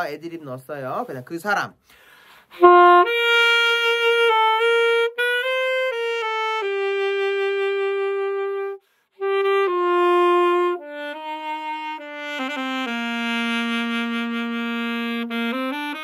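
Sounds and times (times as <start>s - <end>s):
alto saxophone ballad melody: 2.2s - 16.0s.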